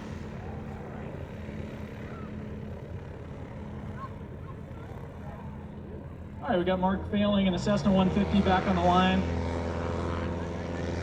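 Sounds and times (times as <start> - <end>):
light aircraft engine droning: 0.0 - 11.0.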